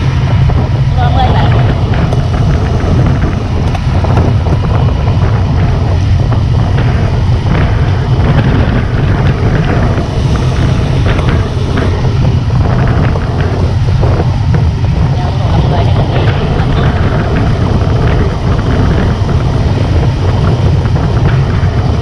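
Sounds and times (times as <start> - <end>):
small motorbike engine running: 0.0 - 22.0
wind rumble on microphone: 0.0 - 22.0.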